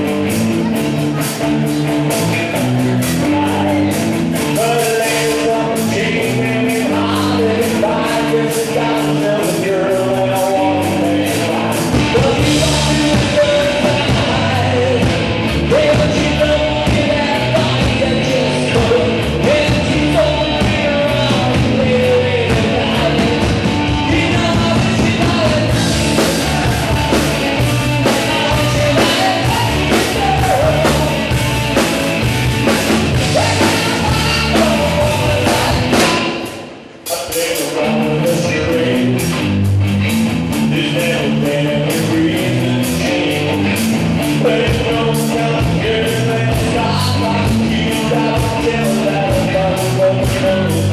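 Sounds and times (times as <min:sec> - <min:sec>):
man singing lead: 0:00.0 - 0:39.5, 0:40.5 - 0:50.9
live rock band playing: 0:00.0 - 0:50.9.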